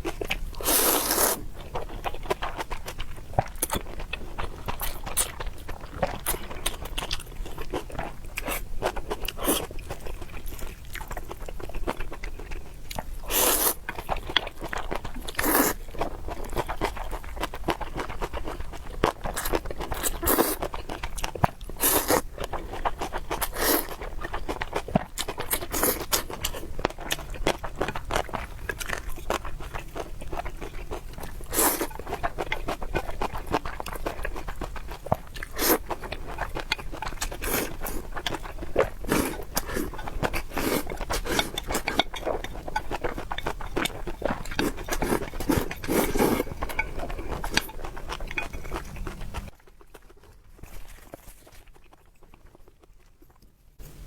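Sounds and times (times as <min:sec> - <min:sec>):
chewing with mouth smacks: 0:00.0 - 0:53.6.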